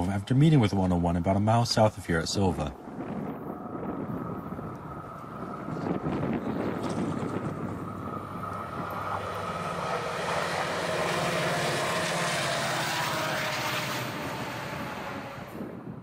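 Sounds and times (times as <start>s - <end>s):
diesel locomotive engine drone: 0.0s - 16.0s
train wheels rushing on rail: 2.9s - 15.8s.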